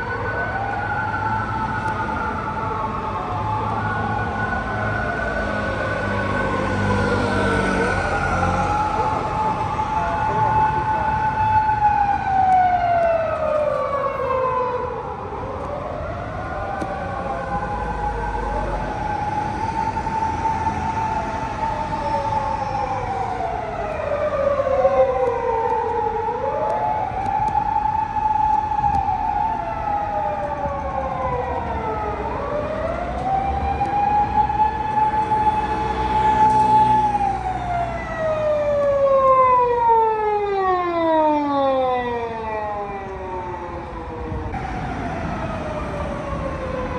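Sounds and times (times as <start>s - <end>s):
police siren wailing: 0.0s - 46.9s.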